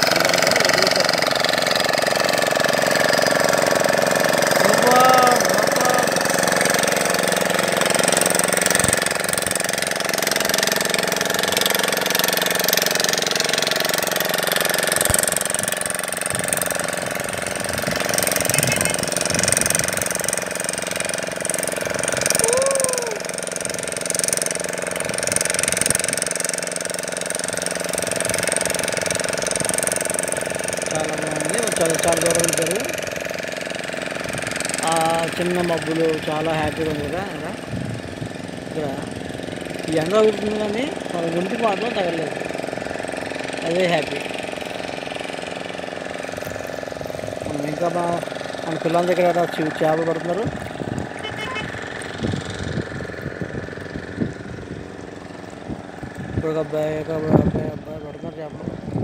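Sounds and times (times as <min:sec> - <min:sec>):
motorboat engine running: 0:00.0 - 0:59.0.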